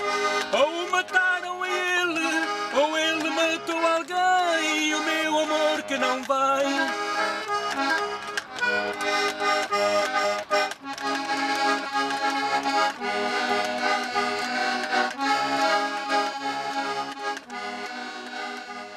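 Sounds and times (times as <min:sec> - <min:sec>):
accordion folk tune: 0:00.0 - 0:18.9.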